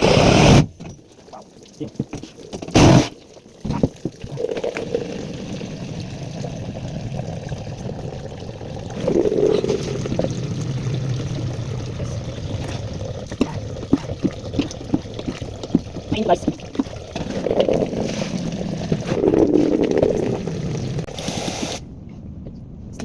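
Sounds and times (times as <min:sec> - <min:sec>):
water running from faucet: 0:01.0 - 0:21.1.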